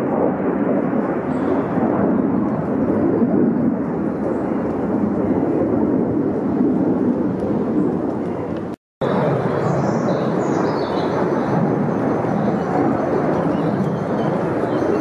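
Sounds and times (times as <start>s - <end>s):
fighter jets flying over: 0.0s - 15.0s.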